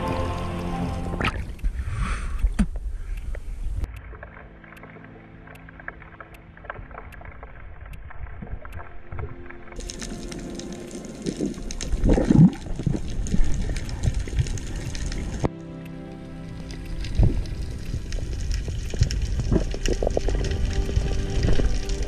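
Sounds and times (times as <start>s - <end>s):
muffled water wash: 0.0s - 22.0s
low water surges: 4.0s - 22.0s.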